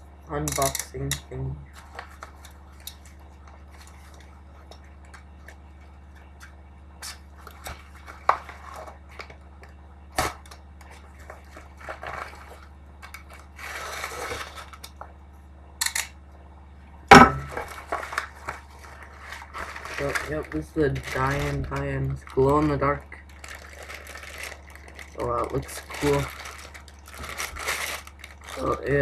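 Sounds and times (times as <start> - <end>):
low electrical hum: 0.0 - 29.0
packaging rustling: 1.7 - 15.0, 17.4 - 29.0.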